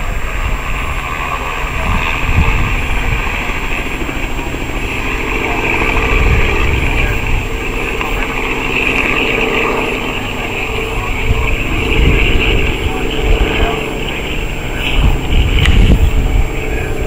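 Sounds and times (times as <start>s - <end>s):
distant aircraft engine droning: 0.0s - 17.0s.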